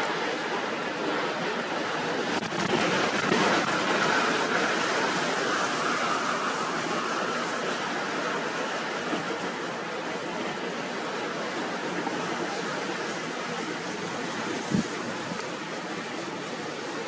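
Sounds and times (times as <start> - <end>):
lake surf roaring: 0.0 - 17.0
wind: 0.0 - 17.0.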